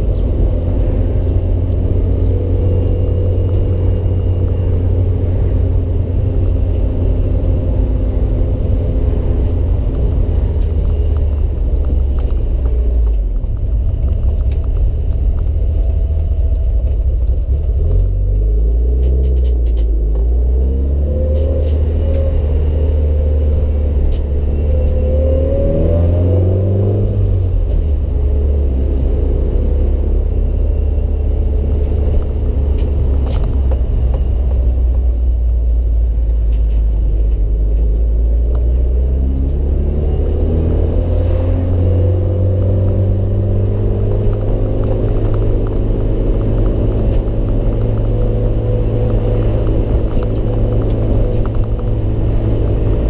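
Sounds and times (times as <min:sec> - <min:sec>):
car engine running: 0:00.0 - 0:25.0, 0:27.1 - 0:53.0.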